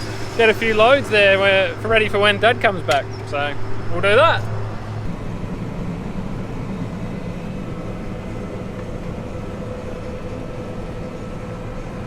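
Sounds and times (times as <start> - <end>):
faint constant whine: 0.0 - 12.0
vehicle engine drone: 0.0 - 12.0.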